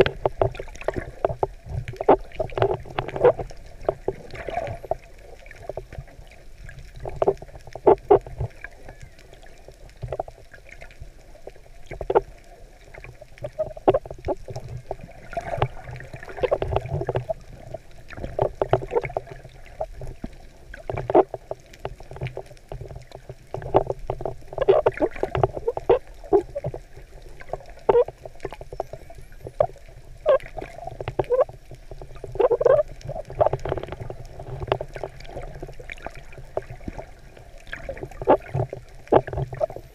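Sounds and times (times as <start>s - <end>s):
low underwater rumble: 0.0s - 39.9s
underwater gurgles and knocks: 0.0s - 39.9s.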